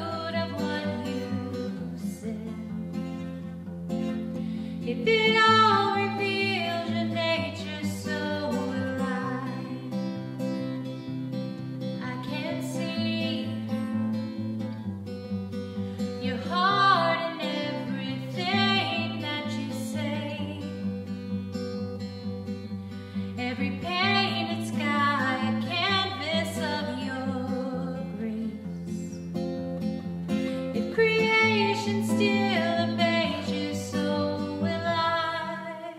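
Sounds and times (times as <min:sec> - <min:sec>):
worship music with guitar: 0:00.0 - 0:35.9.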